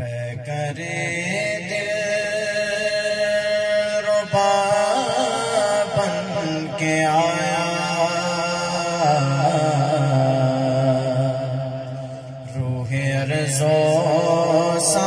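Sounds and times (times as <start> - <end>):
men chanting devotional song: 0.0 - 15.0.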